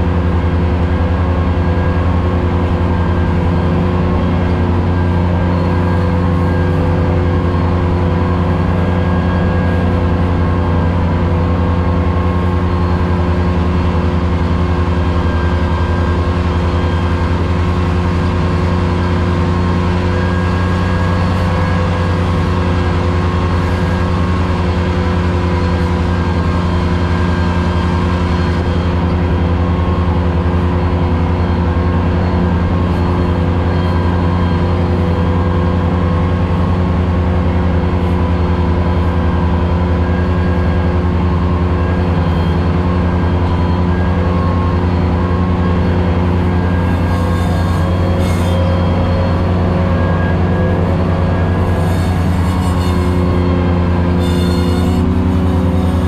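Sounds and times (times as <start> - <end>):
mower deck cutting grass: 0.0 - 56.0
tractor diesel engine droning: 0.0 - 56.0.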